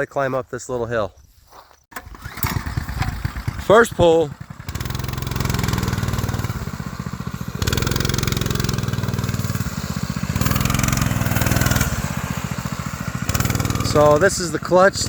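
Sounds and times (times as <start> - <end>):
recoil starter pull: 1.9 - 15.0
small engine revving: 1.9 - 15.0.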